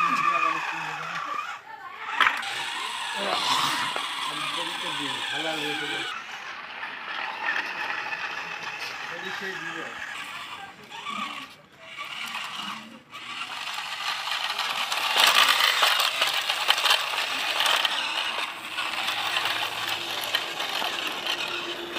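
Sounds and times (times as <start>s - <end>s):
toy loader rattling over twigs: 0.0s - 21.9s.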